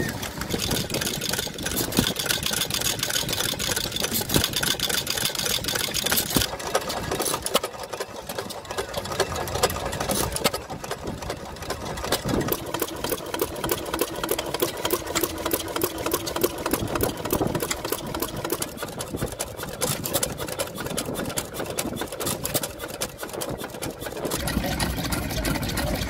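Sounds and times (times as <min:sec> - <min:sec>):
stationary engines clattering: 0:00.0 - 0:26.0.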